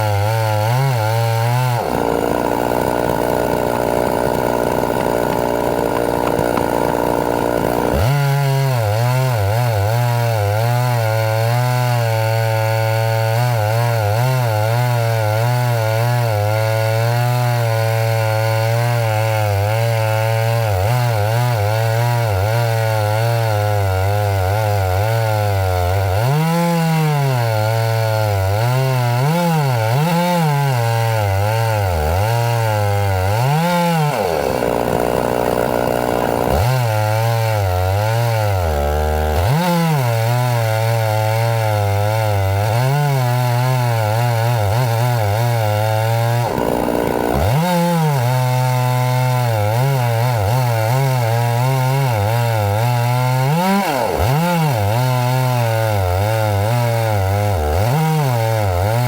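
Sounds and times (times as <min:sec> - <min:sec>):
chainsaw running hard: 0:00.0 - 0:59.0.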